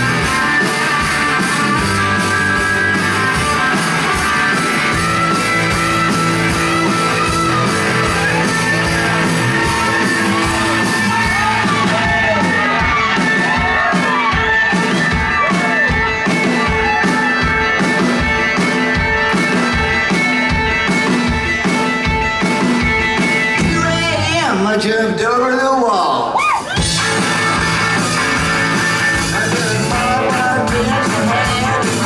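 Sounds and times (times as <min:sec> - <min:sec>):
rock band playing live: 0:00.0 - 0:32.0
swooping lead guitar line: 0:00.0 - 0:32.0.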